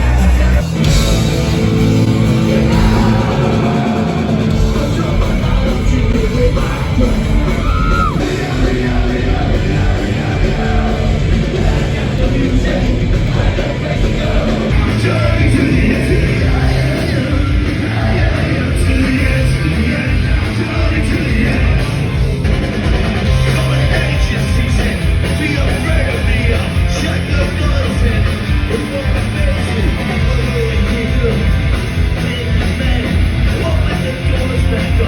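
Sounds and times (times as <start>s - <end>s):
punk rock band playing live: 0.0s - 35.0s.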